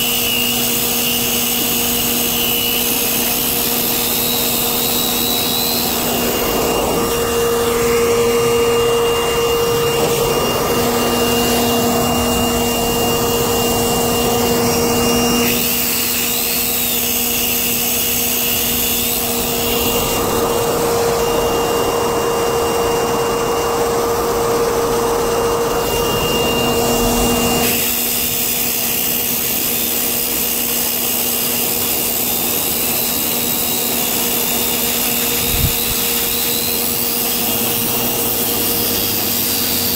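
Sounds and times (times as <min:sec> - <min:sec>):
circular saw cutting asphalt: 0:00.0 - 0:39.9
electric leaf blower: 0:00.0 - 0:39.9.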